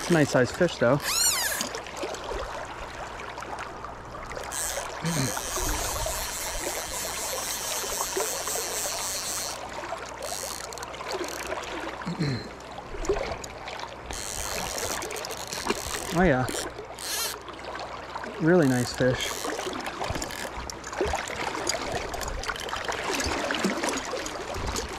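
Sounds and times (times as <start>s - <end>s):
river water rushing and rippling: 0.0s - 24.9s.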